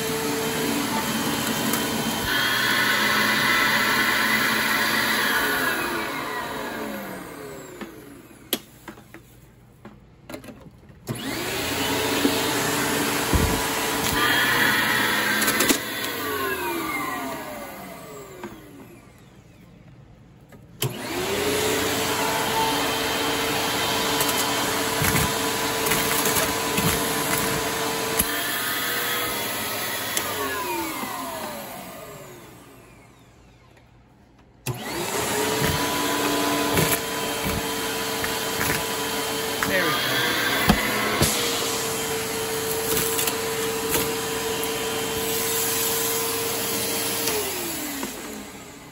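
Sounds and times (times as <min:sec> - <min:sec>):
vacuum cleaner motor whine: 0:00.0 - 0:09.0, 0:11.1 - 0:20.0, 0:20.8 - 0:34.0, 0:34.6 - 0:48.9.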